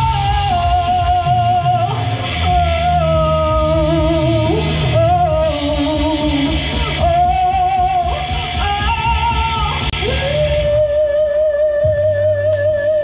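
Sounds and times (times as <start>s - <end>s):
recorded backing track: 0.0s - 13.0s
woman singing with vibrato: 0.0s - 13.0s.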